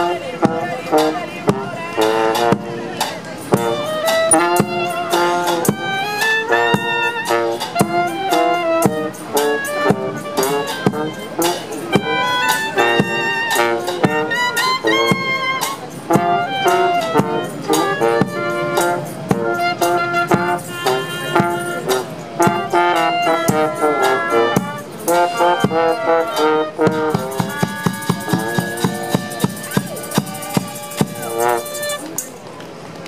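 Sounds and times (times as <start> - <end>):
brass horns: 0.0 - 32.3
clarinet: 0.0 - 32.3
bass drum: 3.5 - 26.2, 26.8 - 31.7.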